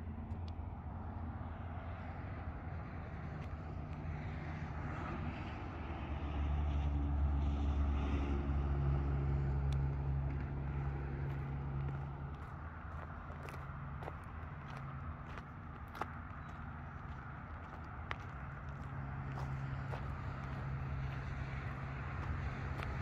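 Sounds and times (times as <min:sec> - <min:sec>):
engine running low: 0:00.0 - 0:23.0.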